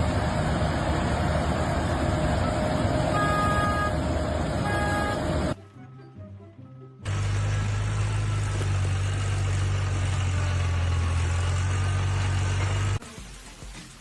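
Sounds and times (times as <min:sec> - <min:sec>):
loud engine drone: 0:00.0 - 0:05.6, 0:07.1 - 0:13.0.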